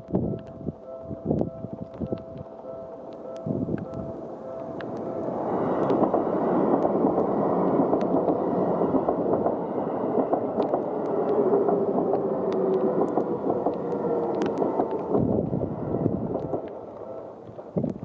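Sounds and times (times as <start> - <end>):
sharp ticks: 0.0 - 8.4, 10.2 - 18.0
faint whine: 0.0 - 18.0
train passing rumble: 0.0 - 18.0.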